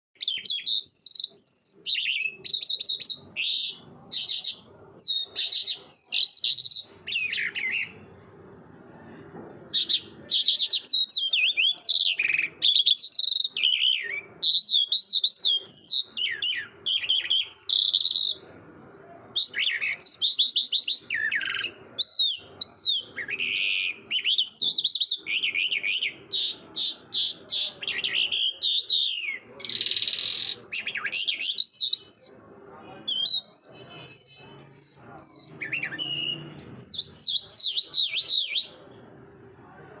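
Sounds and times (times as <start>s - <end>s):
songbird singing whistled trills: 0.2s - 8.0s, 9.8s - 18.4s, 19.4s - 32.4s, 33.1s - 38.8s.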